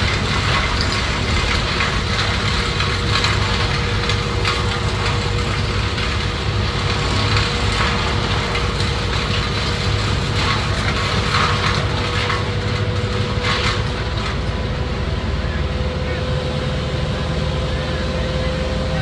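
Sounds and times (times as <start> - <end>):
machinery engine running: 0.0 - 19.0.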